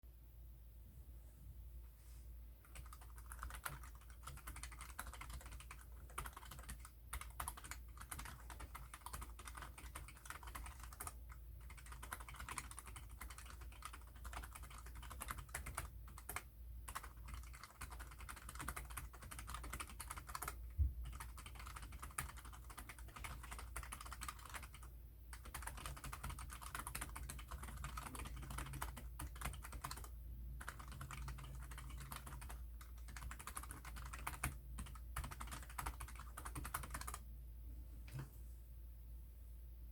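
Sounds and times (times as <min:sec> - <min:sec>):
keyboard typing clicks: 0:02.6 - 0:37.2.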